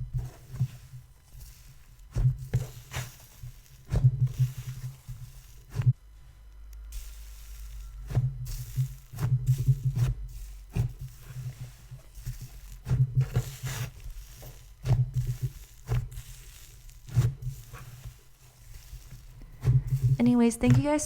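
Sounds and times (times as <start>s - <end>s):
slime squishing: 0.0s - 6.0s, 7.0s - 21.0s
slime sizzling and crackling: 0.0s - 21.0s.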